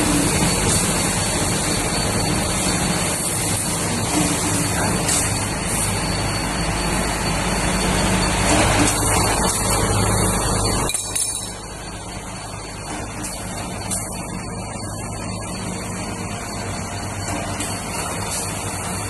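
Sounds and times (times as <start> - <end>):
wire feeding through rollers: 0.0 - 19.0.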